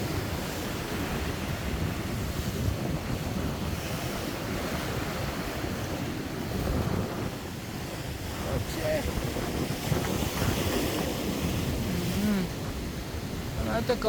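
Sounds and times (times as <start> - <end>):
sea waves surging on shore: 0.0 - 14.0
wind buffeting microphone: 0.0 - 14.0.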